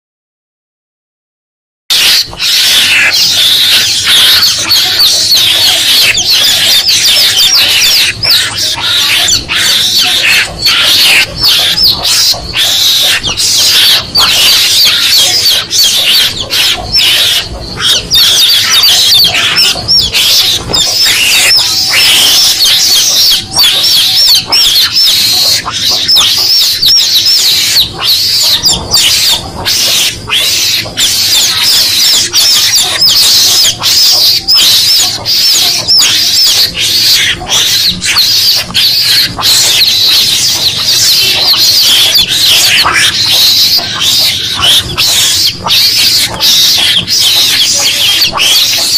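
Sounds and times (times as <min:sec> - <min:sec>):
high-pitched chick peeping: 0:01.9 - 0:48.9
mongoose calls: 0:01.9 - 0:48.9.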